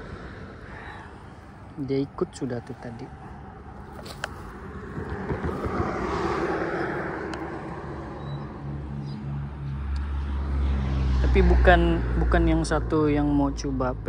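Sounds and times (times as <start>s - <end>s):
low engine hum: 0.0s - 14.0s
vehicle passing: 0.0s - 14.0s.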